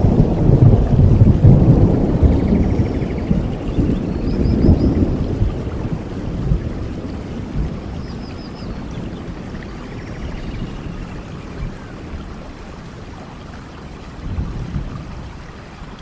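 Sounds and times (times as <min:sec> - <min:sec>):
low rumble of thunder: 0:00.0 - 0:16.0
steady rain: 0:00.0 - 0:16.0.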